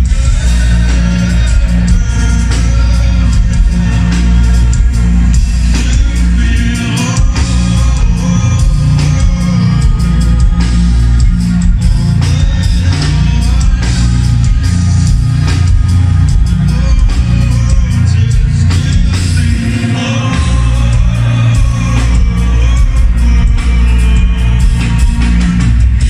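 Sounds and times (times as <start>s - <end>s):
heavy bass: 0.0s - 26.0s
lead vocalist singing: 0.0s - 26.0s
live rock band playing: 0.0s - 26.0s.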